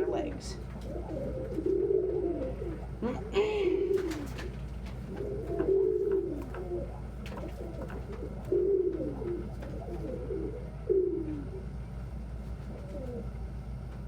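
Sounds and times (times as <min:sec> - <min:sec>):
pigeons cooing: 0:00.0 - 0:13.8.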